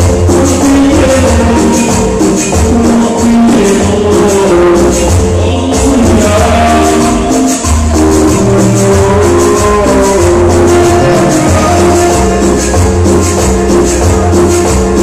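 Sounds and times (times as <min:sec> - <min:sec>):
loud dance music with shaker and bass: 0:00.0 - 0:15.0.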